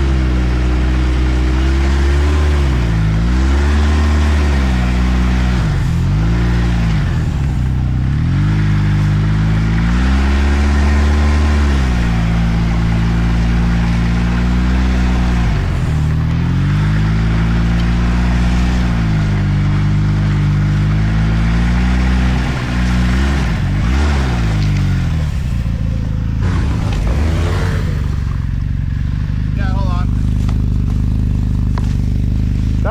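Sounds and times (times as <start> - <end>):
snowmobile engine revving: 0.0 - 32.9.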